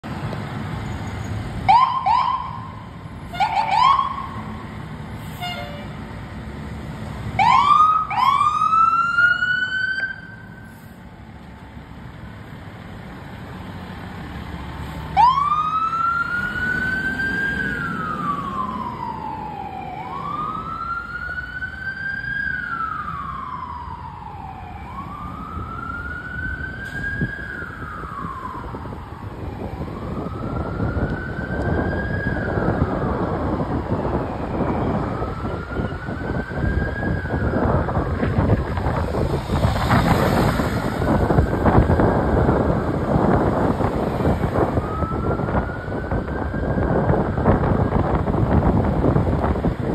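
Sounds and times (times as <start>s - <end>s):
fire engine siren: 0.8s - 6.1s, 7.2s - 11.9s, 13.9s - 49.9s.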